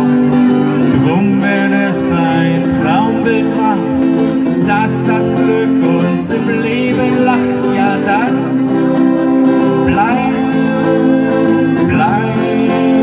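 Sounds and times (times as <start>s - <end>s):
acoustic guitars strumming: 0.0s - 13.0s.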